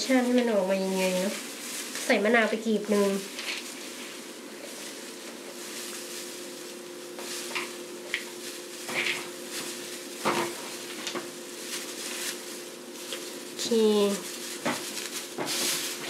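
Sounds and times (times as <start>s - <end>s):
plastic crinkling: 0.0s - 16.0s.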